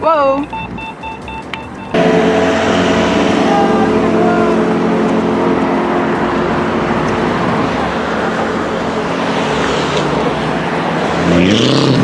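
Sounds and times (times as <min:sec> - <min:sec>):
cars driving past: 0:00.5 - 0:12.0.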